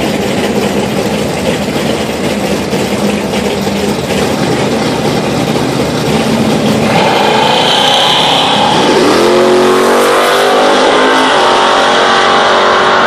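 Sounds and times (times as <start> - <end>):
car engine idling loudly: 0.0 - 13.0.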